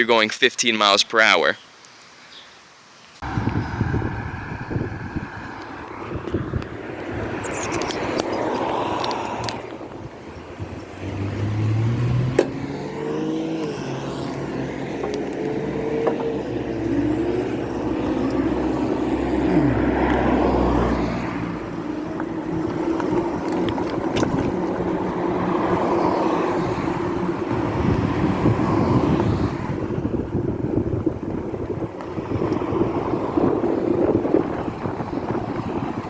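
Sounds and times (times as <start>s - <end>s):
motor vehicles passing: 3.2s - 36.0s.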